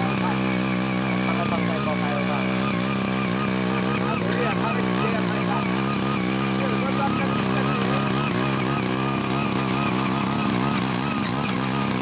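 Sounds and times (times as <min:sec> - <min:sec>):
garden tiller engine running: 0:00.0 - 0:12.0
tines digging soil: 0:00.0 - 0:12.0.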